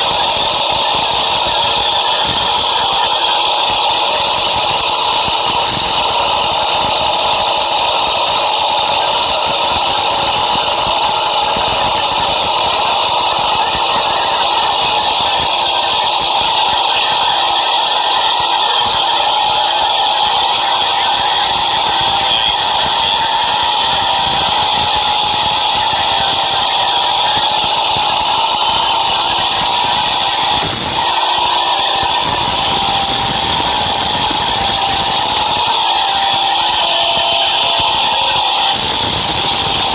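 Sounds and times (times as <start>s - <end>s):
high-pitched whining tones: 0.0s - 39.9s.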